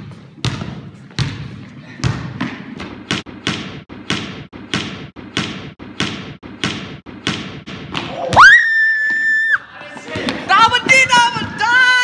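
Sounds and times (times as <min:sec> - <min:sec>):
basketball bouncing on wooden floor: 0:00.0 - 0:09.2, 0:10.0 - 0:12.0.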